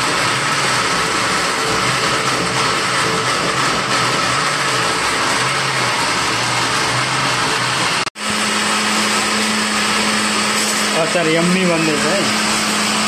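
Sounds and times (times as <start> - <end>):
electric blender motor whir: 0.0 - 13.0.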